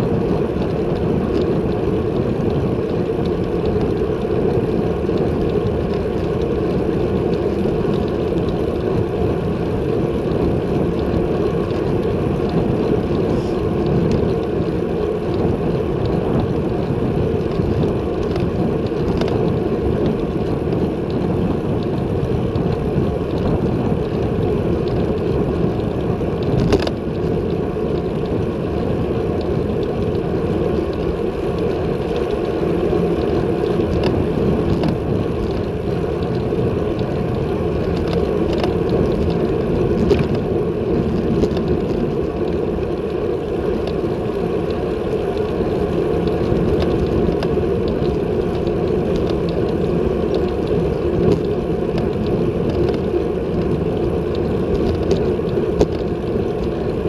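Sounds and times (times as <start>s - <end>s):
bicycle tyre and road noise: 0.0s - 57.0s
wind on microphone: 0.0s - 57.0s.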